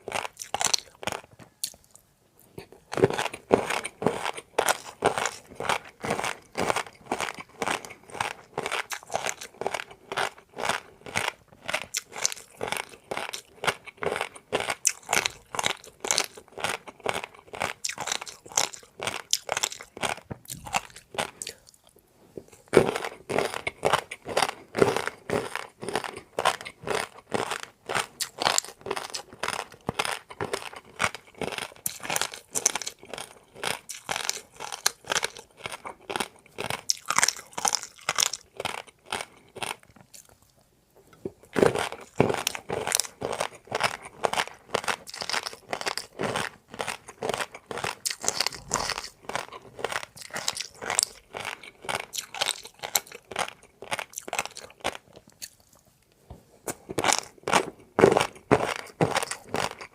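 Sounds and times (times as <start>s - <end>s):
chewing crisp food: 0.0s - 59.9s.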